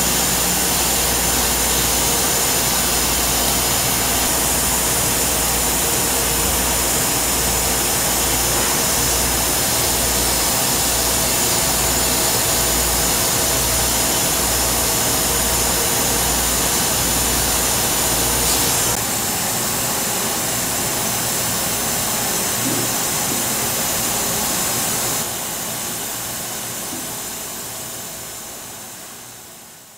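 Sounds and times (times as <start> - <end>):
laser cutter hissing: 0.0 - 29.0.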